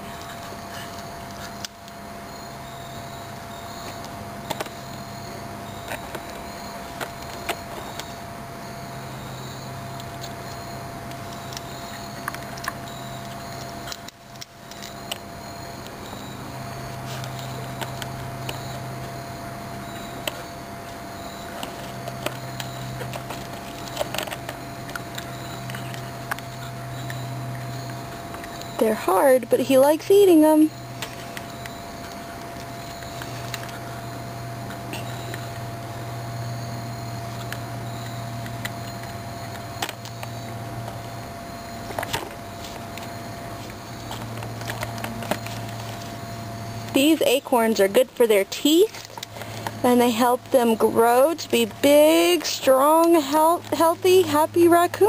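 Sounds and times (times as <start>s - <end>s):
steady low hum: 0.0s - 55.0s
raccoon cracking acorn shells: 3.8s - 8.2s, 9.9s - 46.2s, 46.8s - 53.9s.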